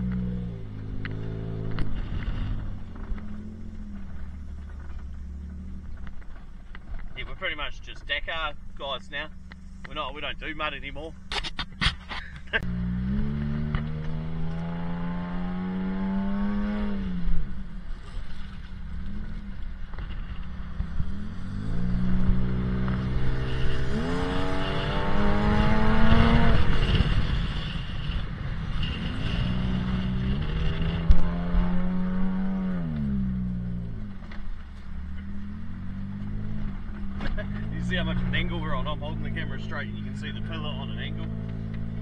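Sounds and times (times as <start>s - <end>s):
truck engine accelerating: 0.0s - 42.0s.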